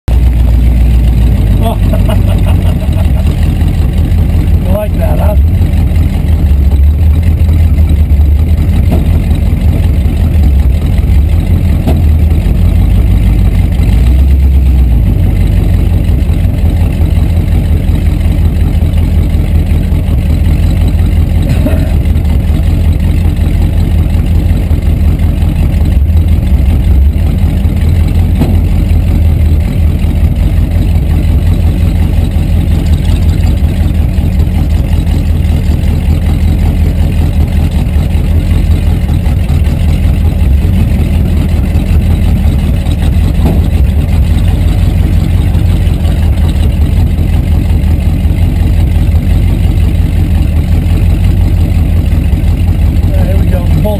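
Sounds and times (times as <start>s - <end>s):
engine idling with low rumble: 0.0s - 53.9s.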